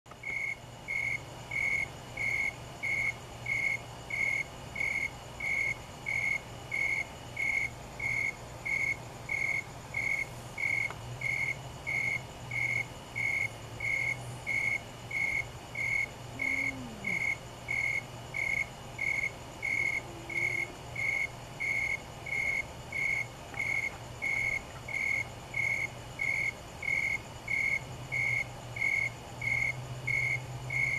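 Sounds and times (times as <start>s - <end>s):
cricket chirping: 0.1s - 30.9s
steady low hum: 0.2s - 30.8s.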